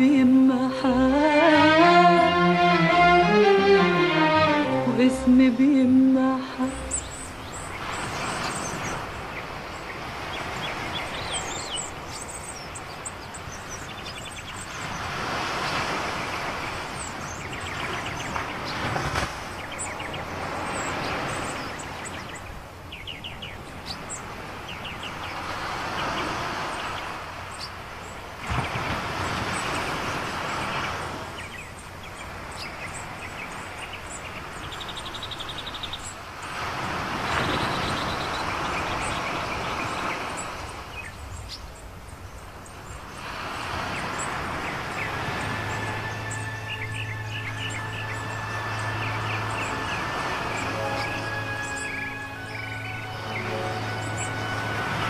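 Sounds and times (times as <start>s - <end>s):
sea waves washing ashore: 0.0s - 55.0s.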